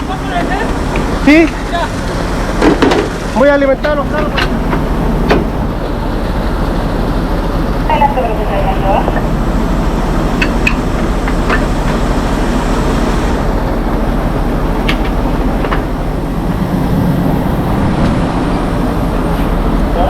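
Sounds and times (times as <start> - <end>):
fire truck engine running: 0.0 - 20.0.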